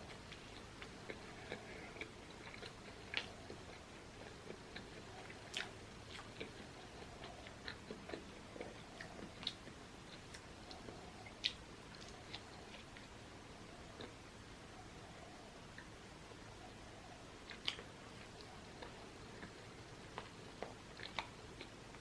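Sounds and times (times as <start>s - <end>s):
person chewing food: 0.0s - 14.2s, 16.7s - 22.0s.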